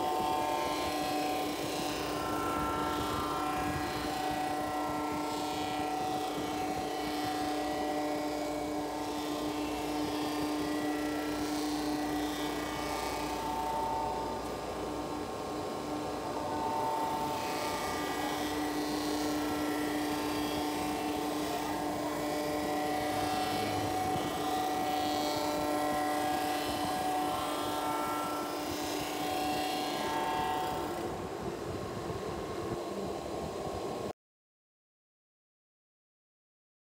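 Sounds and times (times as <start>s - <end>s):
resurfacing machine droning: 0.0s - 34.1s.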